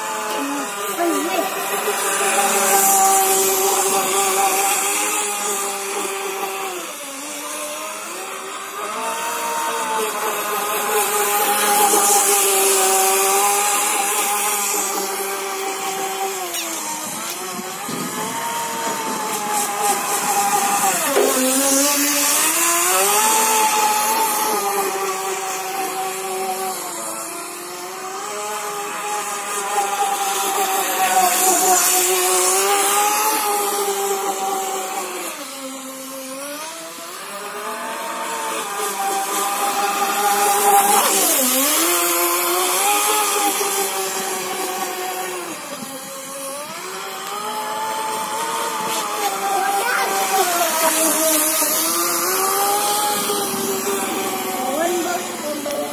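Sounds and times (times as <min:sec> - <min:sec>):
electric motor whining: 0:00.0 - 0:55.9.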